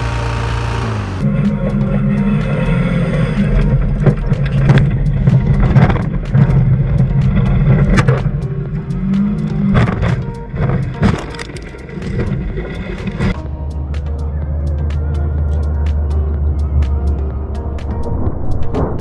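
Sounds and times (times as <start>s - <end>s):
car engine drone: 0.0s - 19.0s.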